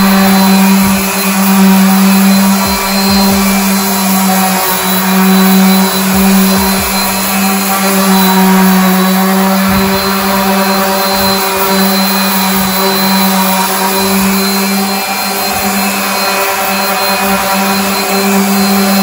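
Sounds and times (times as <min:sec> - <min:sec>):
orbital sander running: 0:00.0 - 0:19.0.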